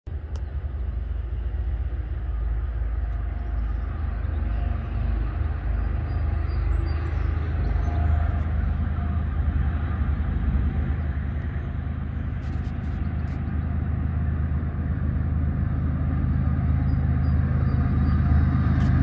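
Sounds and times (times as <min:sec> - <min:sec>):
distant diesel locomotives rumbling: 0:00.1 - 0:19.0.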